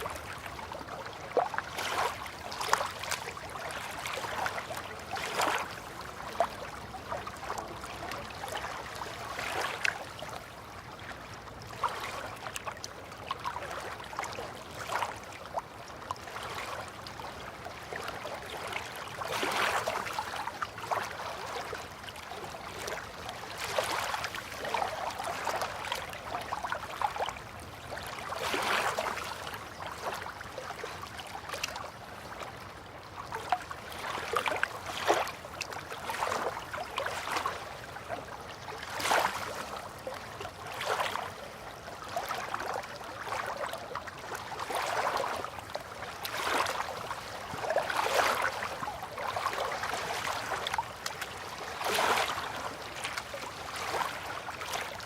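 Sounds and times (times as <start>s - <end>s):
small splashes and drips: 0.0s - 10.4s, 11.0s - 32.6s, 33.2s - 55.0s
water lapping at riverbank: 0.0s - 55.0s.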